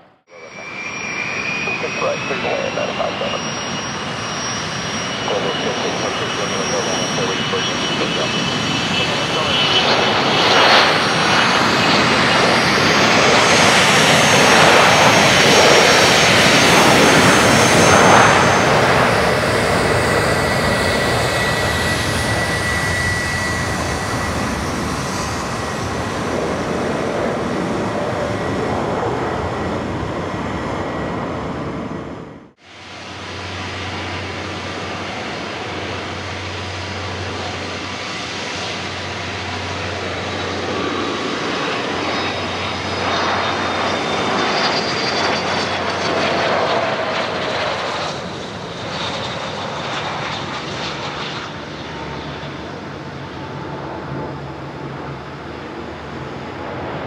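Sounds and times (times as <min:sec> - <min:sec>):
jet engine low hum: 0:00.0 - 0:57.0
jet engine whine: 0:00.0 - 0:57.0.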